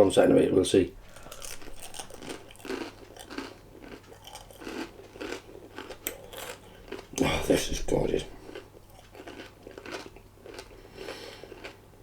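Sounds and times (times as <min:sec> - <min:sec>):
man chewing crunchy food: 0:01.0 - 0:12.0.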